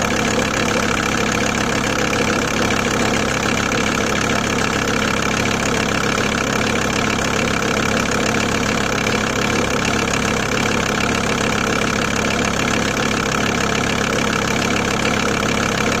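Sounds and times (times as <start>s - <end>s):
diesel engine idling with knock: 0.0s - 16.0s.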